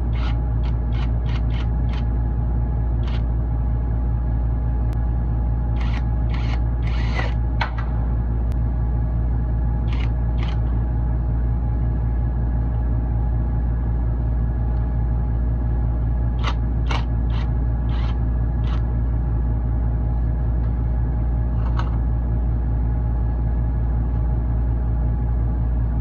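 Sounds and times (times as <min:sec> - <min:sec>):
ship machinery drone: 0:00.0 - 0:26.0.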